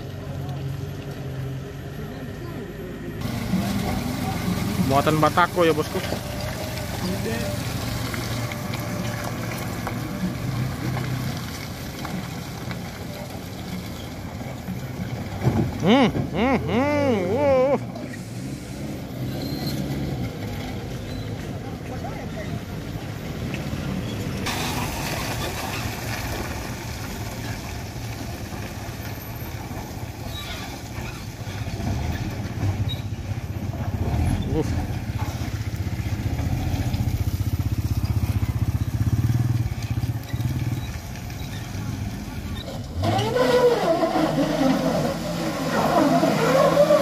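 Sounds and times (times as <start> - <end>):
truck engine droning: 0.0 - 47.0.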